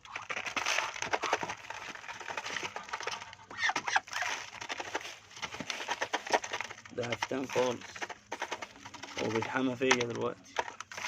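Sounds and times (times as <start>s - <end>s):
ducks pecking grain: 0.0s - 11.0s.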